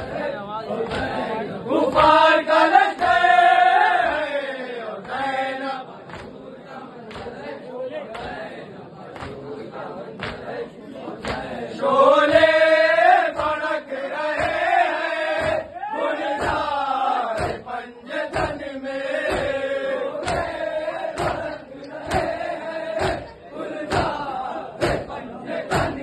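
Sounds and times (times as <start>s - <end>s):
men chanting a lament: 0.0s - 26.0s.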